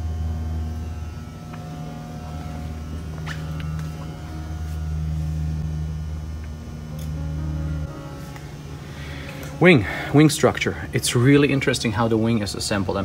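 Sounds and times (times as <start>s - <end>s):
faint steady whine: 0.0s - 13.0s
low machine hum: 0.0s - 13.0s.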